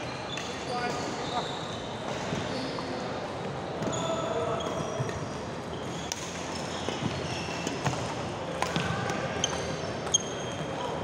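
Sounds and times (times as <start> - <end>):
shoes squeaking on floor: 0.0 - 8.1, 9.4 - 11.0
busy sports hall din: 0.0 - 11.0.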